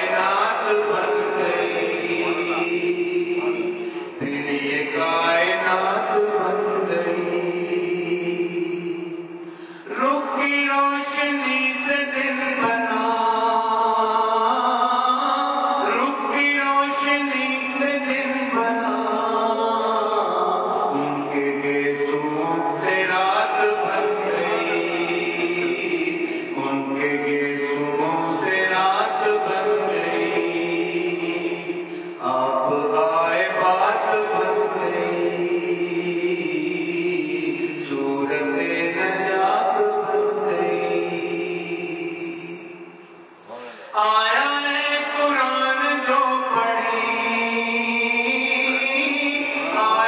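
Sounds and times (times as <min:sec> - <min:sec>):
man singing unaccompanied: 0:00.0 - 0:42.7, 0:43.9 - 0:50.0.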